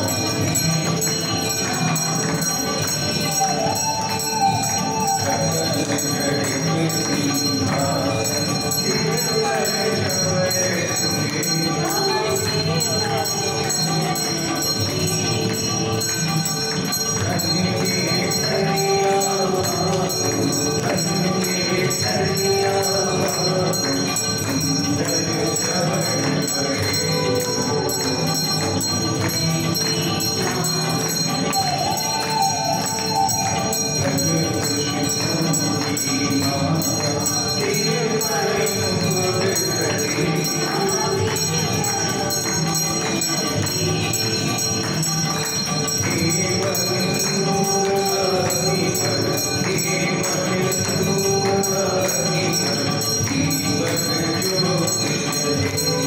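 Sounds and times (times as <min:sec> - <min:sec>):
bells ringing: 0:00.0 - 0:56.0
devotional singing: 0:00.0 - 0:56.0
jingling percussion: 0:00.0 - 0:56.0.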